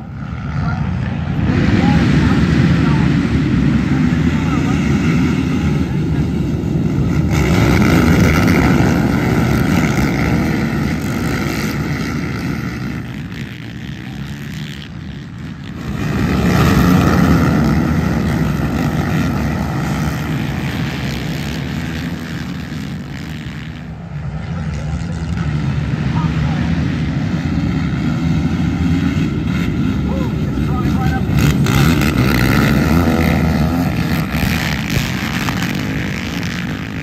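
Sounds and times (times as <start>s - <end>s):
racing quad engines droning: 0.0s - 37.0s.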